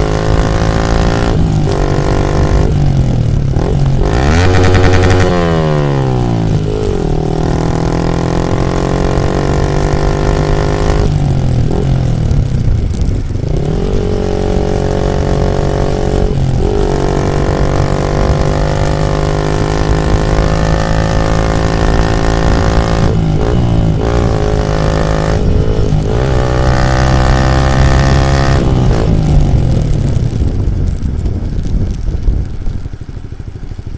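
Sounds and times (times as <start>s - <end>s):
motorcycle engine revving: 0.0s - 33.5s.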